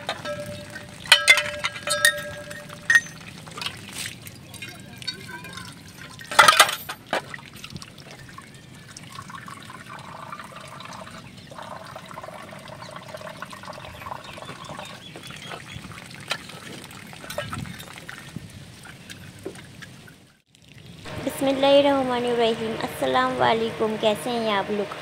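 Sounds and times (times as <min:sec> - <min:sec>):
hose water splashing: 0:00.0 - 0:25.0.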